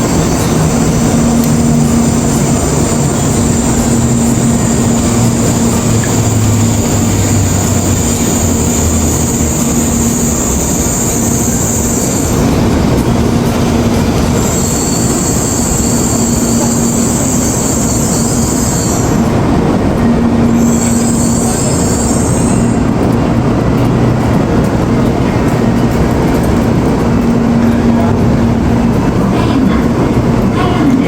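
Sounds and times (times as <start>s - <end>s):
high train squeal: 0.0s - 31.0s
train rolling rumble: 0.0s - 31.0s.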